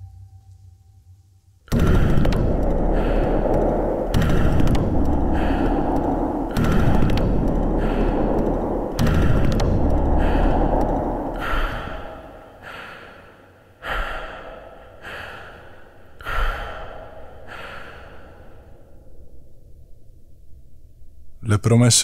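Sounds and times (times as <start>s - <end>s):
low rumble: 0.0s - 21.4s
person breathing heavily: 1.7s - 19.4s.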